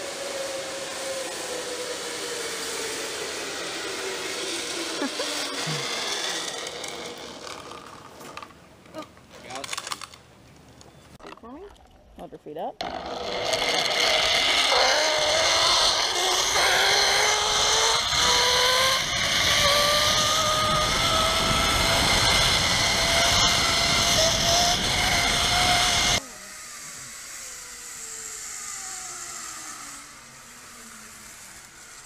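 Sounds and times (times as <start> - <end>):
zip line trolley whine: 0.0 - 9.1, 12.8 - 32.0.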